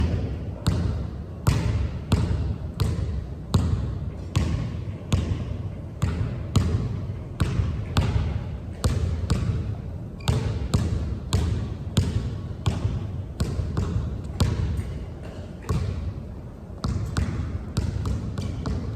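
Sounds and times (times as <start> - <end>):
basketball dribbling on court: 0.0 - 18.9.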